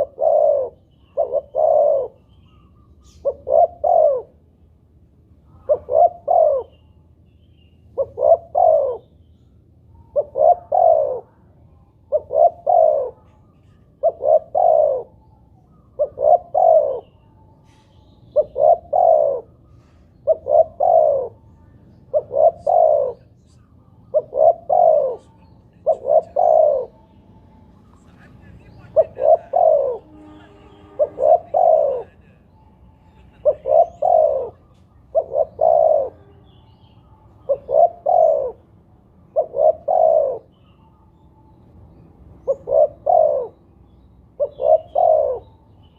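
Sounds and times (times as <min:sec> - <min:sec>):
dove cooing: 0:00.0 - 0:04.5, 0:05.4 - 0:07.0, 0:07.9 - 0:09.2, 0:10.0 - 0:23.4, 0:24.0 - 0:27.2, 0:28.1 - 0:41.2, 0:42.4 - 0:45.8.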